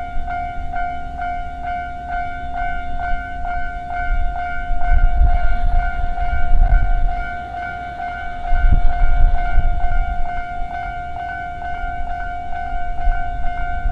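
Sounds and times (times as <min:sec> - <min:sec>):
level crossing bell ringing: 0:00.0 - 0:13.9
train rumbling: 0:00.0 - 0:13.9.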